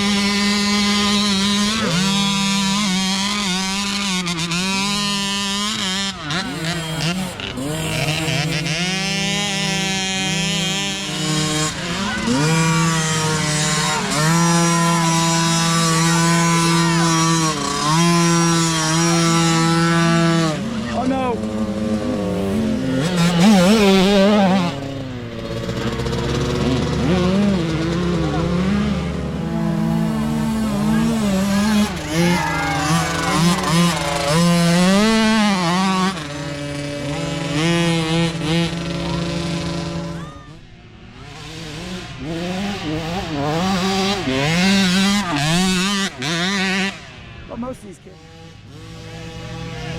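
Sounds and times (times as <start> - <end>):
dirt bike engine revving high: 0.0 - 49.9
faint motorbike engines: 0.0 - 49.9.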